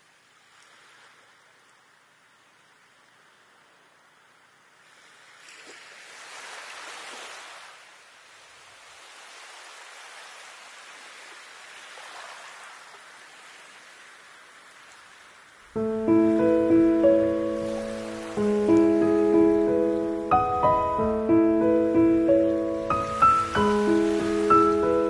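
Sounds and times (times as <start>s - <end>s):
soft rushing water: 0.0s - 25.0s.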